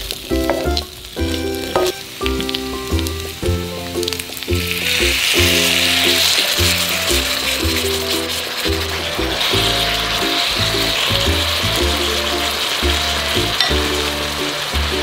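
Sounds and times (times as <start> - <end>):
background music: 0.0 - 15.0
loud steady sizzle: 0.0 - 15.0
potatoes frying in a wok: 0.0 - 15.0.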